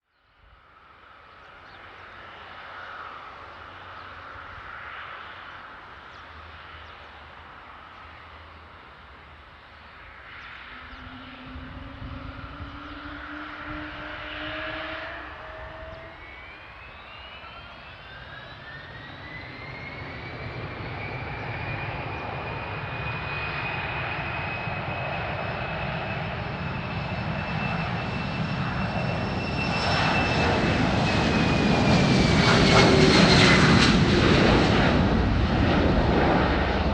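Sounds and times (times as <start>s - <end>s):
jet turbine whine: 0.4s - 36.9s
jet engine roar: 0.7s - 36.9s.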